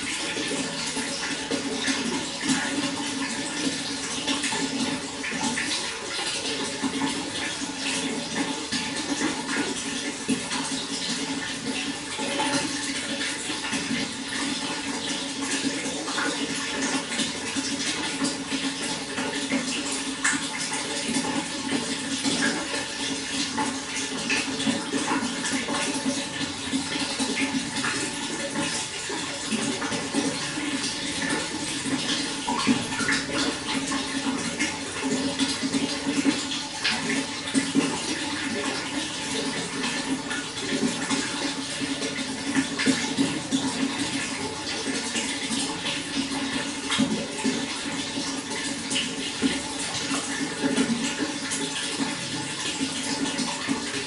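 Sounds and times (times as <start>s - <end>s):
running water splashing: 0.0s - 54.0s.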